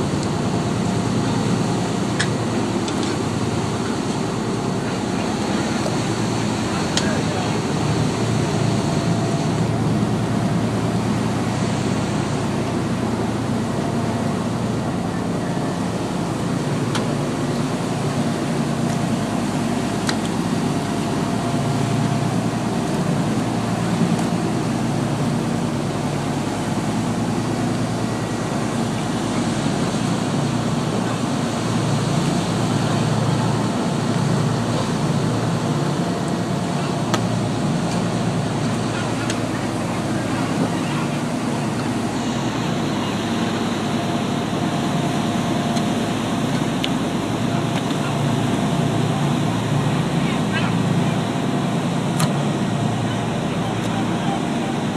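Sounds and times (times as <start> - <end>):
boat engine droning: 0.0 - 54.9
water rushing past hull: 0.0 - 54.9.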